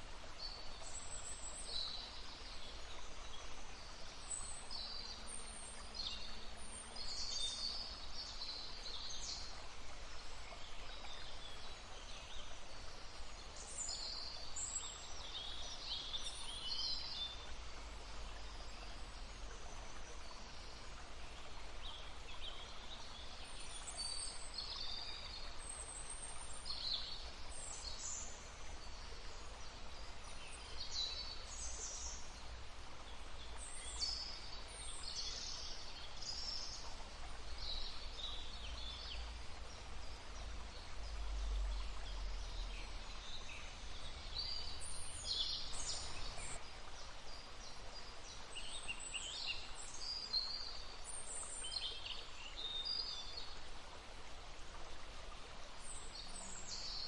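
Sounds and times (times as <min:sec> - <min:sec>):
songbirds chirping and trilling: 0:00.0 - 0:53.6
stream murmuring: 0:00.0 - 0:57.0.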